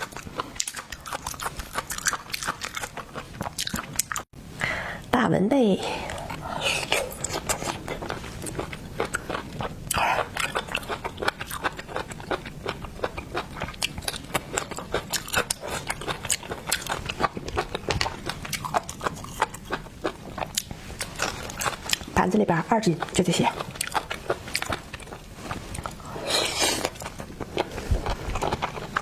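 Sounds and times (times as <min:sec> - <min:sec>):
chewing: 0:00.0 - 0:04.3, 0:06.0 - 0:22.2, 0:22.8 - 0:29.0.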